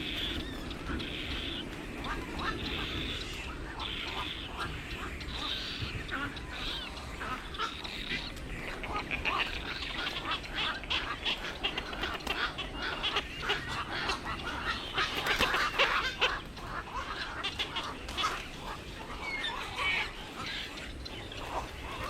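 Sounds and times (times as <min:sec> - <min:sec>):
water birds squawking and quacking: 0:00.0 - 0:22.0.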